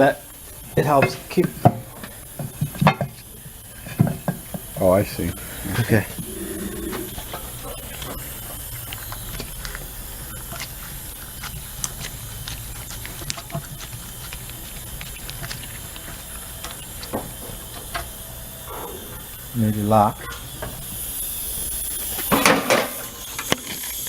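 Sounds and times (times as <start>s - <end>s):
shop background hiss and hum: 0.0s - 24.0s.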